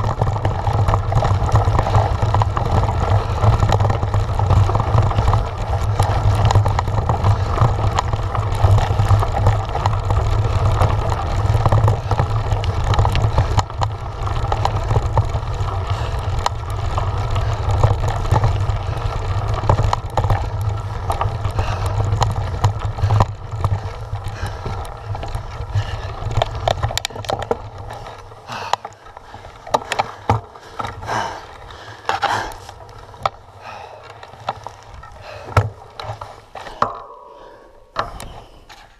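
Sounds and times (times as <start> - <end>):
bike rattling: 0.0 - 38.9
bike tyres rumbling on stones: 0.0 - 38.9.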